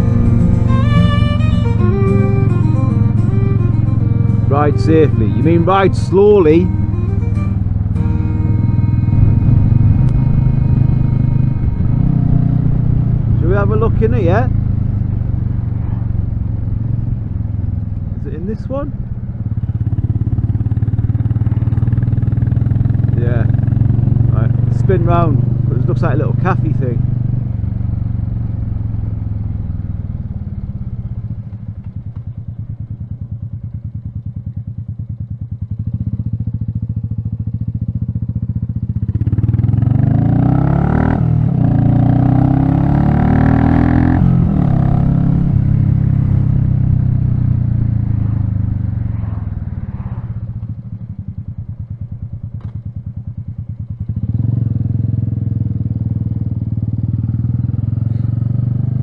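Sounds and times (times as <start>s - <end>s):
motorcycle engine pulsing: 0.0s - 58.1s.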